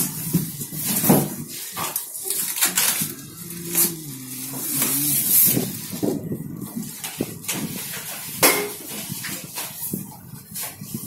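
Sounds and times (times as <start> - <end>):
plastic packaging rustling and crackling: 0.0 - 11.0.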